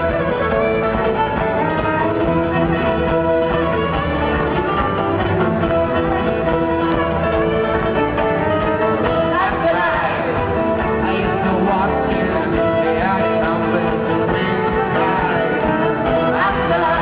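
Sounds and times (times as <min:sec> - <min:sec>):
fiddle: 0:00.0 - 0:17.0
folk band playing: 0:00.0 - 0:17.0
guitar: 0:00.0 - 0:17.0.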